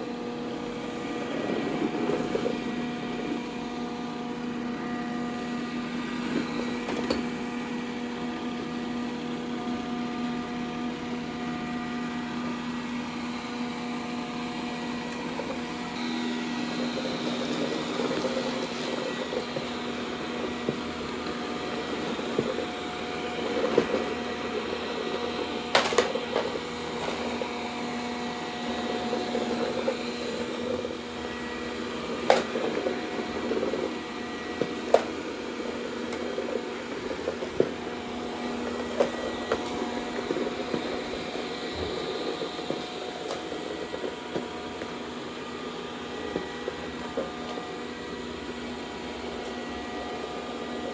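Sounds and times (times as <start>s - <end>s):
robot vacuum motor whirring: 0.1s - 50.9s.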